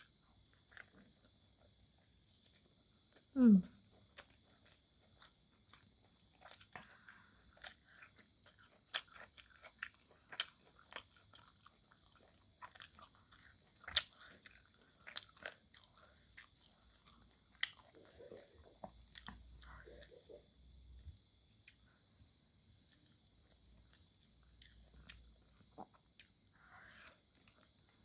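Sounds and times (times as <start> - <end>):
person chewing and crunching: 0.0 - 28.0.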